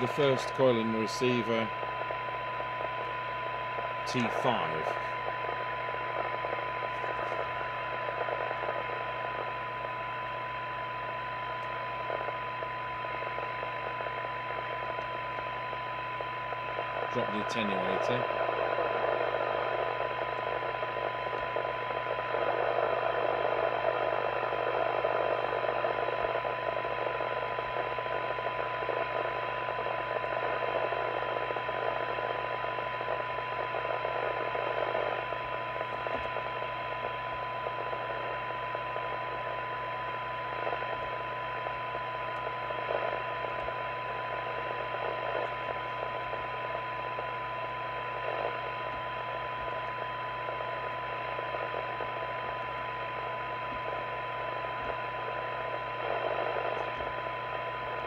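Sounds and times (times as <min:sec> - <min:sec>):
radio receiver hiss: 0:00.0 - 0:58.0
steady test tone: 0:00.0 - 0:58.0.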